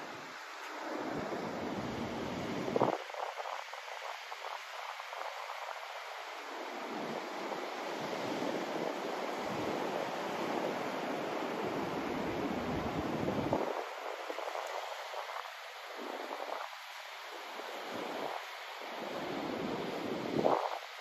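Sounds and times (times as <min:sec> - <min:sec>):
white noise hiss: 0:00.0 - 0:21.0.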